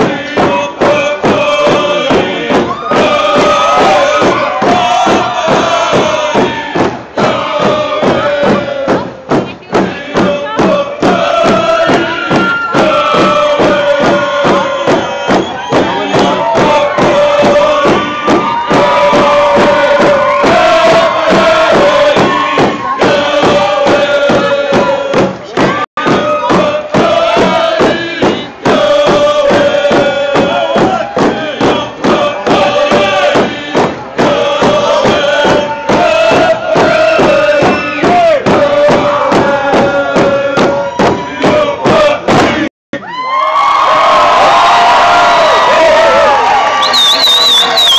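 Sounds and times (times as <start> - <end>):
group chanting long notes: 0.0 - 42.7
hand drums beating: 0.0 - 42.7.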